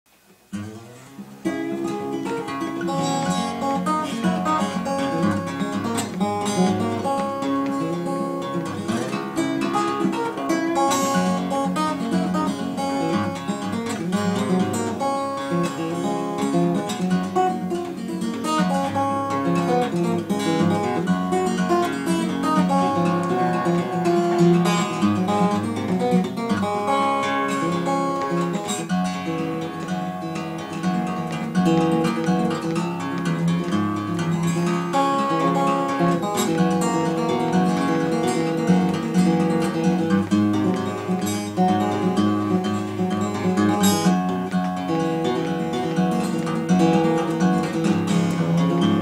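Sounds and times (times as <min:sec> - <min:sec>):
fingerpicked acoustic guitar: 0:00.1 - 0:49.0.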